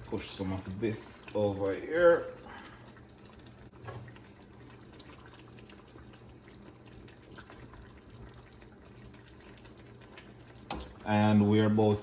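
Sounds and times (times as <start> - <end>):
faint liquid sounds: 0.0 - 12.0.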